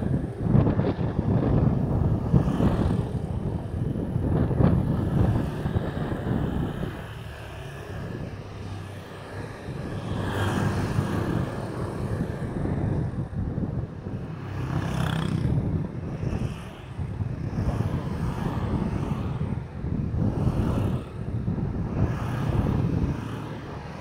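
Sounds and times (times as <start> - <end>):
road traffic: 0.0 - 24.0
vehicles passing: 0.0 - 24.0
wind rumbling on microphone: 0.0 - 24.0.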